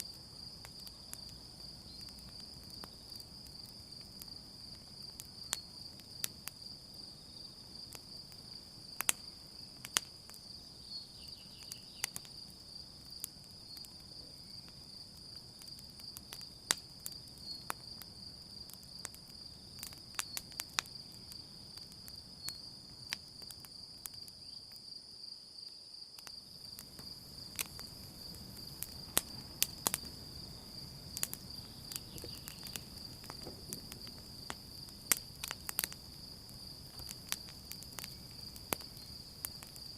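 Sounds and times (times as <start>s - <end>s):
campfire crackling and popping: 0.0s - 24.8s, 26.1s - 39.9s
crickets trilling: 0.0s - 39.9s.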